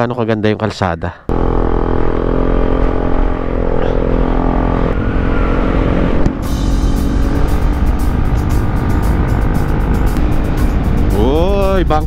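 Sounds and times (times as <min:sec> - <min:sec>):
motorcycle engine running: 0:01.3 - 0:12.0.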